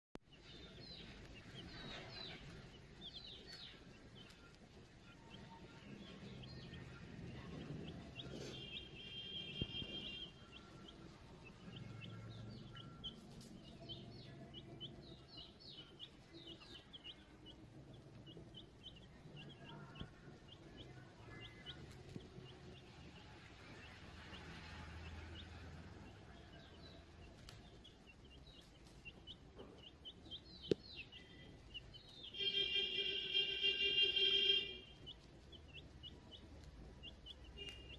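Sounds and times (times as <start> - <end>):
chicks peeping: 0.2 - 37.9.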